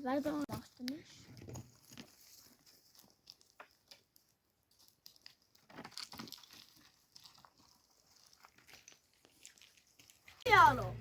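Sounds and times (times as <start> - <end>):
faint clicks and rustles: 0.0 - 10.4.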